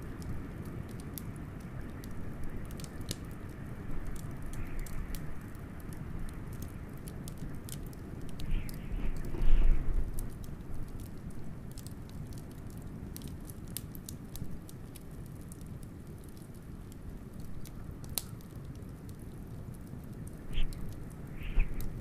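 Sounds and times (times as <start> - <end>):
howling wind: 0.0 - 13.3, 16.1 - 22.0
wood fire crackling: 0.0 - 22.0.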